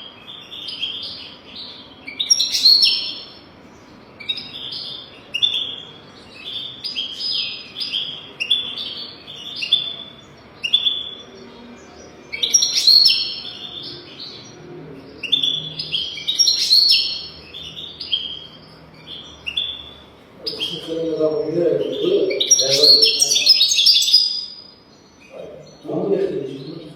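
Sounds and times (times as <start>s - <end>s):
goldfinch singing: 0.0s - 26.9s.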